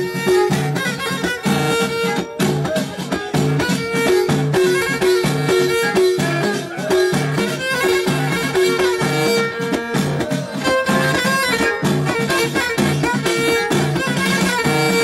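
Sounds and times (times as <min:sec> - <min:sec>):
frame drums beating: 0:00.0 - 0:15.0
violin melody: 0:00.0 - 0:15.0.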